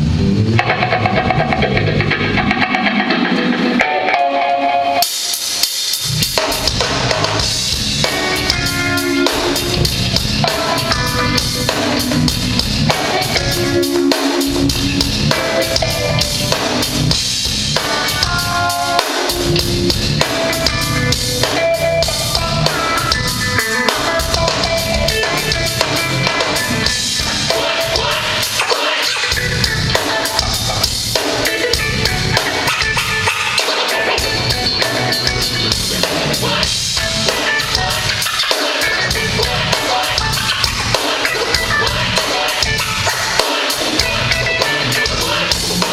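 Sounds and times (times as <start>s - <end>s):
drum kit beat: 0.0s - 45.9s.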